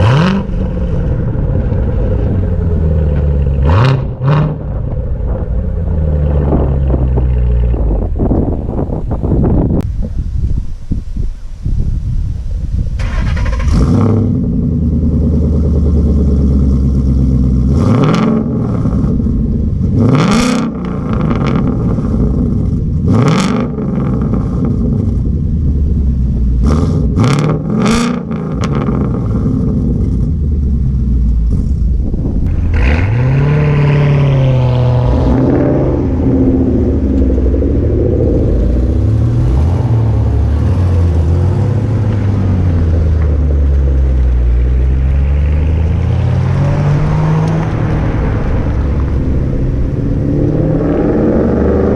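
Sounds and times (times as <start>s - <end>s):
car engine idling and revving: 0.0s - 51.9s.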